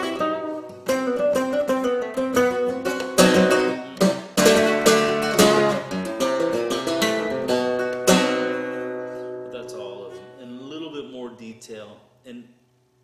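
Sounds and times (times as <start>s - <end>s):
guitar strummed chords: 0.0s - 10.6s
flamenco guitar plucked notes: 0.0s - 10.8s.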